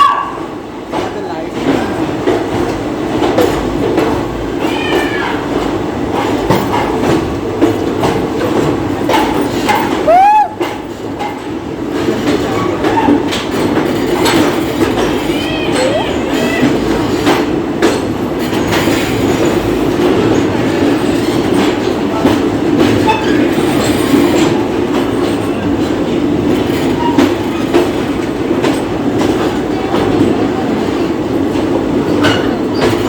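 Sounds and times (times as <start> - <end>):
train rumbling at speed: 0.0 - 33.0
wheels clicking over rail joints: 0.8 - 33.0.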